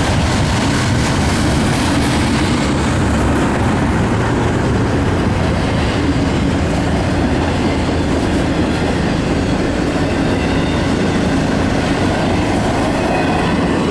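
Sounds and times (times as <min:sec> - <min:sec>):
train wheels clattering on rails: 0:00.0 - 0:13.9.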